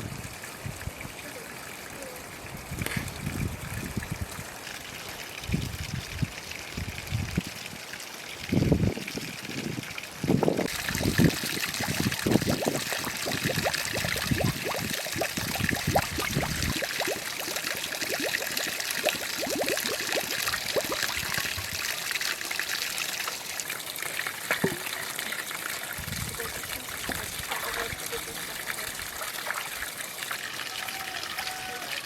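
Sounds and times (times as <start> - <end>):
running water rushing: 0.0 - 32.0
small water splashes: 0.3 - 32.0.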